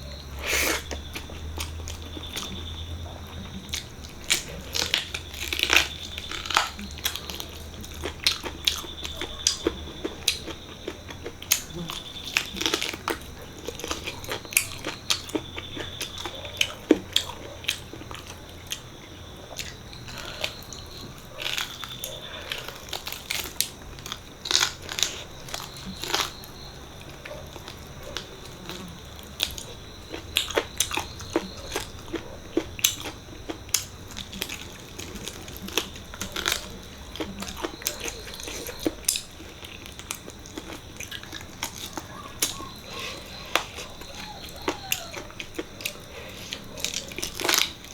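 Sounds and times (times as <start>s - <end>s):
wet chewing and lip smacks: 0.1s - 47.9s.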